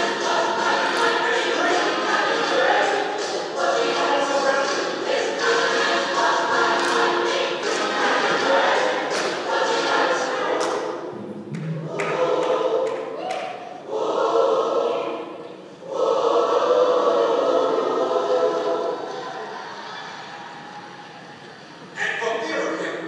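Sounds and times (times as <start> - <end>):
choir singing a slow hymn: 0.0 - 21.7.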